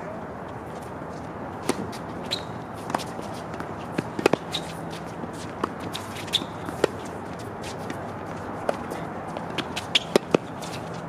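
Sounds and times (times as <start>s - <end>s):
footsteps on court: 0.4s - 11.0s
sneaker squeaks: 1.2s - 11.0s
tennis racket hits and ball bounces: 1.6s - 11.0s.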